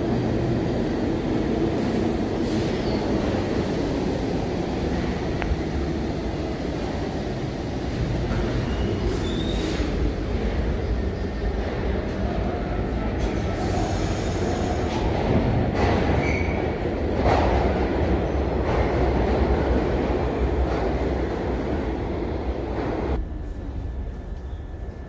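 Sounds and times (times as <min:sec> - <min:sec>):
subway train rumble: 0:00.0 - 0:25.0.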